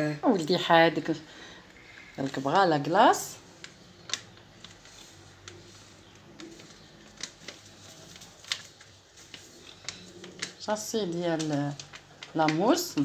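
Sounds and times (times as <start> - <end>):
foil sachet crinkling: 1.8 - 13.0.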